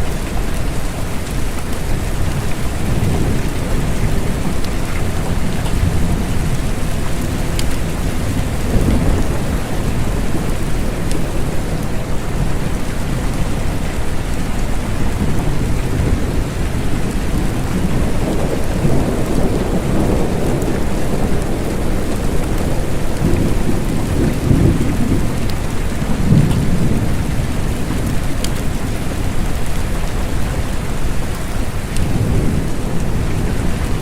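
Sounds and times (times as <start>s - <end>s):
steady rain: 0.0s - 34.0s
low rolling thunder: 2.2s - 30.7s, 31.9s - 34.0s.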